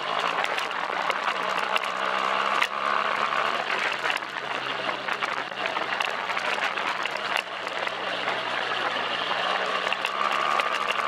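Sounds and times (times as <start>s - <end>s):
motorcycle engine running: 0.0s - 11.0s
sharp clicks and rattles: 0.0s - 11.0s.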